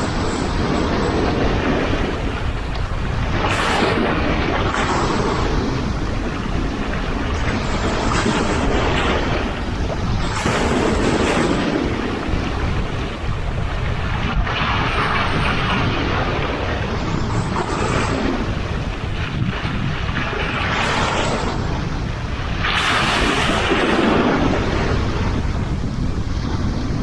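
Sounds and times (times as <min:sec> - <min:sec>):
sea waves breaking: 0:00.0 - 0:27.0
wind buffeting microphone: 0:00.0 - 0:27.0.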